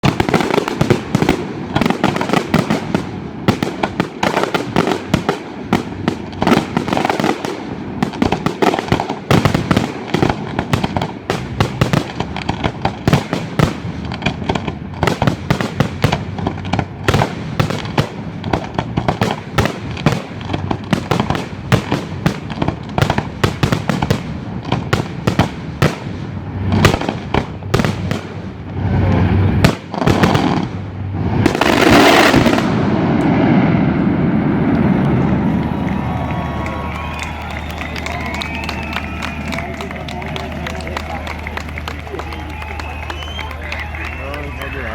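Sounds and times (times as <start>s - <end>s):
echoing fireworks rumble: 0.0s - 44.9s
fireworks bangs: 0.0s - 44.9s.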